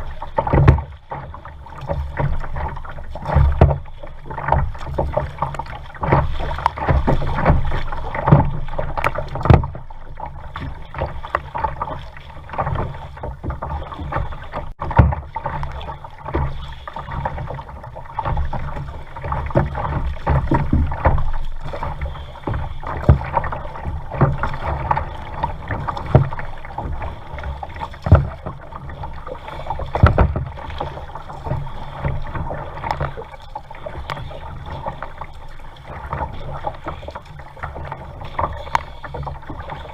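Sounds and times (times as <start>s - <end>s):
paddle splashing in water: 0.0s - 39.9s
water slapping hull: 0.0s - 39.9s.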